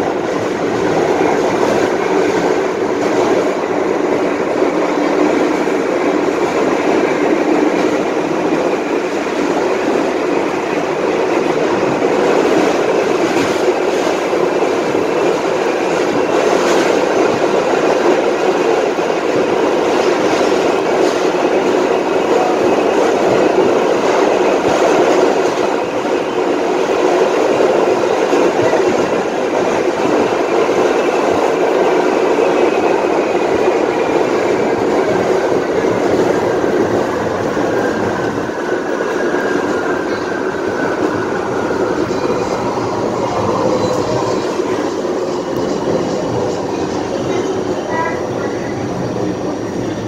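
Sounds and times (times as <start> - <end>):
subway traction motors howling: 0.0 - 50.0.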